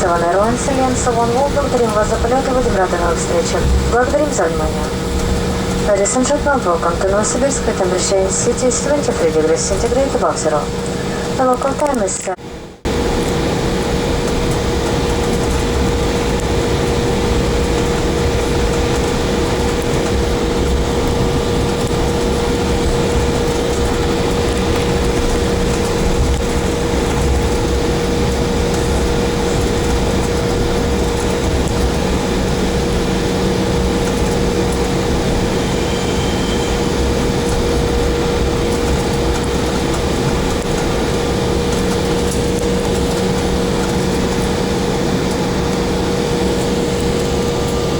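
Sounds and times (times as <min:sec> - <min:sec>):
jet engine rumble and hiss: 0:00.0 - 0:47.9
mid-pitched cabin hum: 0:00.0 - 0:47.9.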